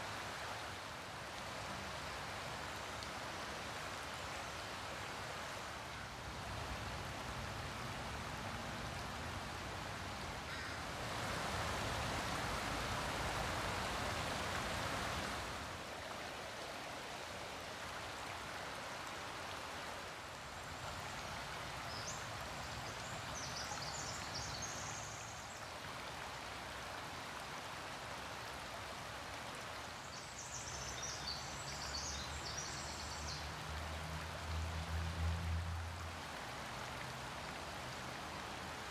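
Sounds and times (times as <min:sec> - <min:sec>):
creek trickling over stones: 0:00.0 - 0:38.9.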